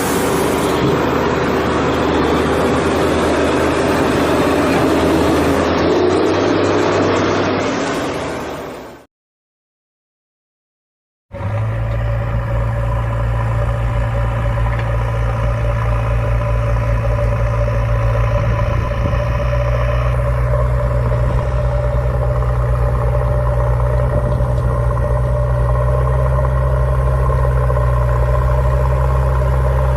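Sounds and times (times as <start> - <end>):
engine-like drone: 0.0 - 9.1, 11.3 - 29.9.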